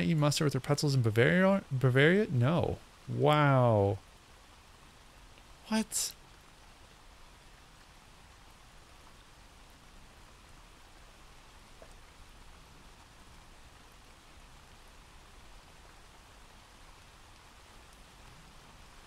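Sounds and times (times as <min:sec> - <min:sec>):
faint recorded rain: 0:00.0 - 0:19.0.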